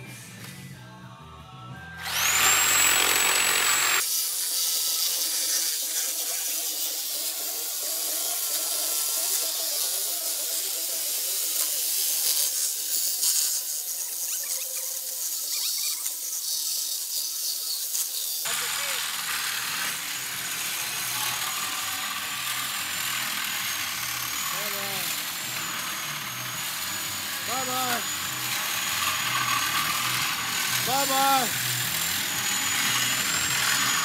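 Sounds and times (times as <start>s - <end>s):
reciprocating saw cutting metal: 2.0s - 34.0s.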